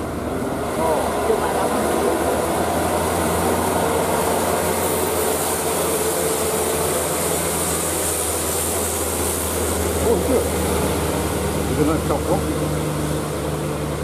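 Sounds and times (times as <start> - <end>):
diesel truck engine passing: 0.0 - 14.0.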